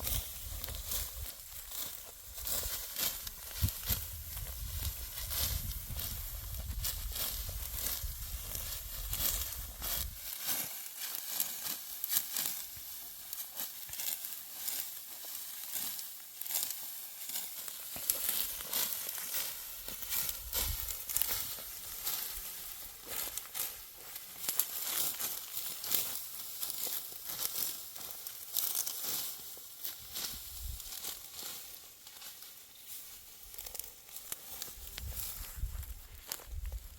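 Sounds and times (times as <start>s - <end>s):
sickle reaping dry wheat: 0.0s - 36.9s.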